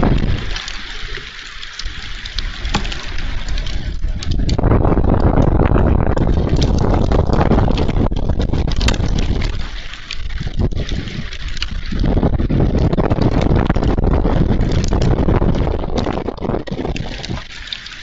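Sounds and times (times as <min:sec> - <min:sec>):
wind buffeting microphone: 0:00.0 - 0:00.8, 0:01.8 - 0:17.5.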